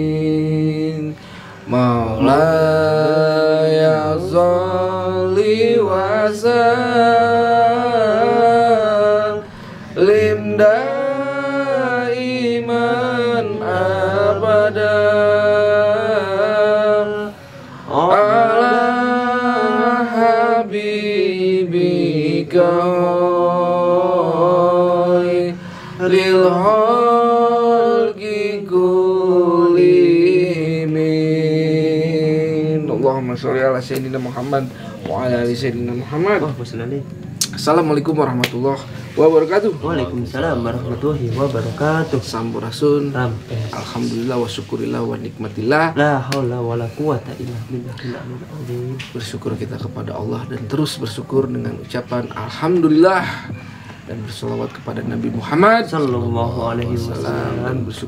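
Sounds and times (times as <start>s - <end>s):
devotional chanting: 0.0s - 58.0s.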